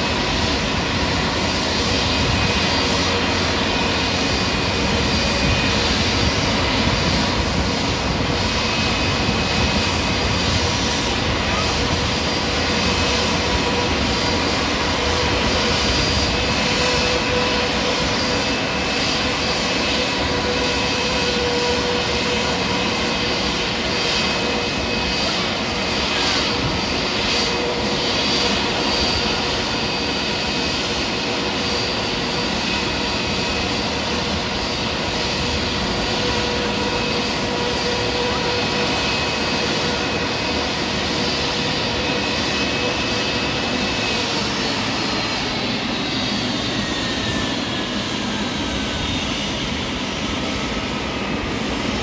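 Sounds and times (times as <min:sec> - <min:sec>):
high engine whine: 0:00.0 - 0:52.0
jet engines rushing: 0:00.0 - 0:52.0.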